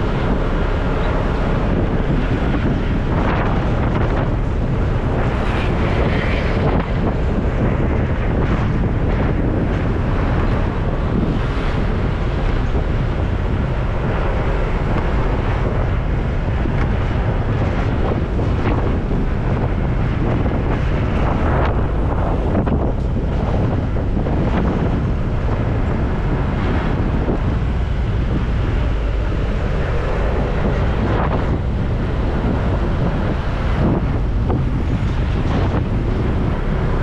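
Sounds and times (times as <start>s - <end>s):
passing traffic: 0.0s - 37.0s
wind buffeting microphone: 0.0s - 37.0s.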